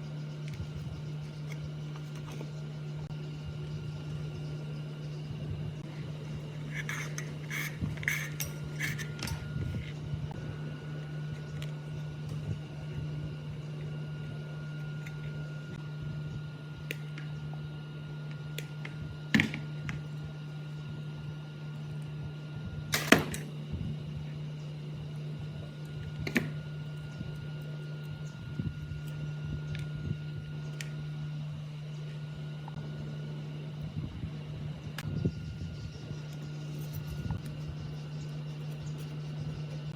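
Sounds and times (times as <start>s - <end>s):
faint high whine: 0.0s - 39.9s
low hum: 0.0s - 39.9s.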